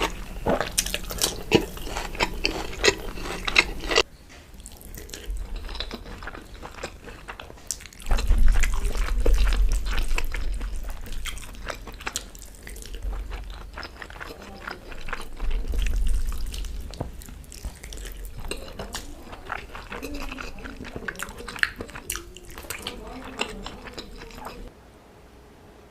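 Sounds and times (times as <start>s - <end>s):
wet chewing and mouth clicks: 0.0s - 24.7s.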